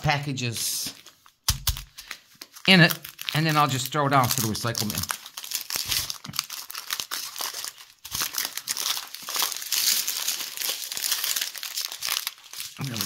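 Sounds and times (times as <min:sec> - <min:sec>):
plastic bags crinkling: 0:00.8 - 0:13.0.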